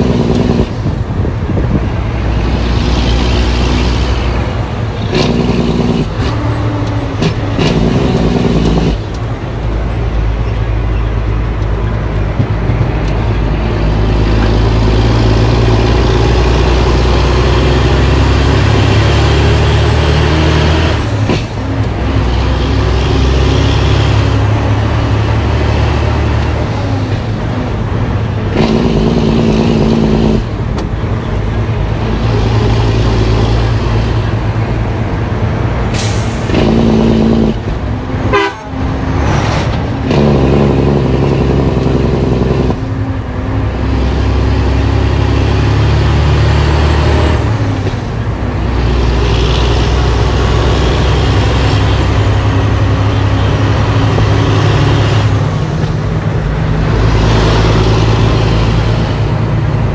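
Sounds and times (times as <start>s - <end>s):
diesel truck engine under load: 0.0s - 59.9s.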